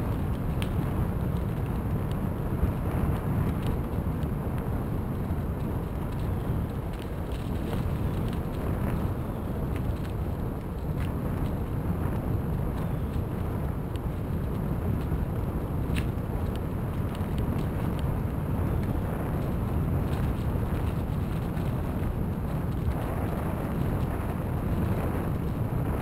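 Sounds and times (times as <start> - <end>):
bicycle tyres rumbling on gravel: 0.0 - 26.0
small clicks and crackles: 0.0 - 26.0.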